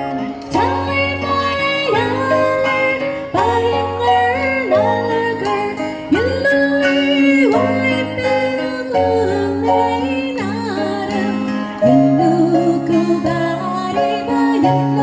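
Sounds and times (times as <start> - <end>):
instrumental backing with bass: 0.0 - 15.0
person singing: 0.0 - 15.0.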